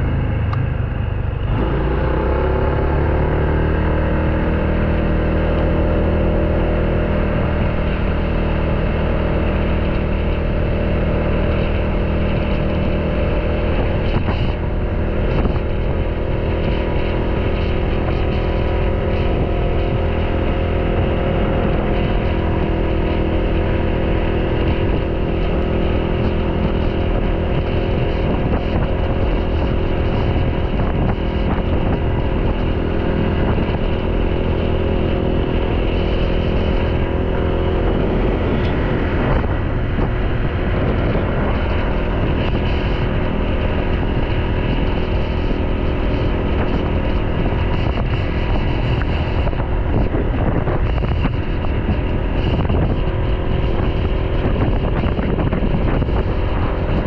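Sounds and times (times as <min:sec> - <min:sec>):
motorbike engine hum: 0:00.0 - 0:57.0
wind rumbling on microphone: 0:00.0 - 0:57.0.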